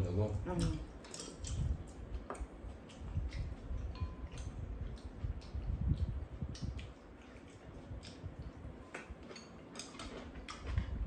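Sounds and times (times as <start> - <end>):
chewing: 0.5 - 11.0.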